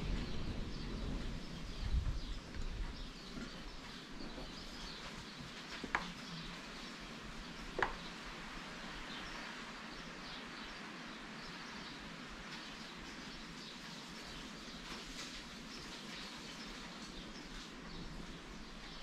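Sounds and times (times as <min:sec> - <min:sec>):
background hiss: 0:00.0 - 0:19.0
birds chirping faintly: 0:00.0 - 0:19.0.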